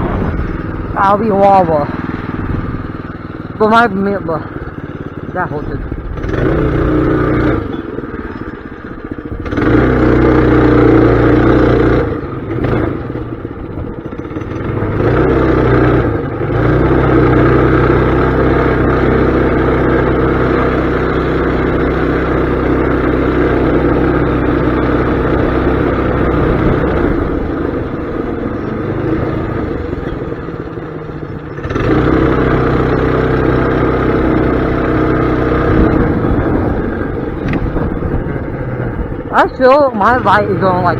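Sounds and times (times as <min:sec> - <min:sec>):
mini bike engine revving: 0:00.0 - 0:40.9.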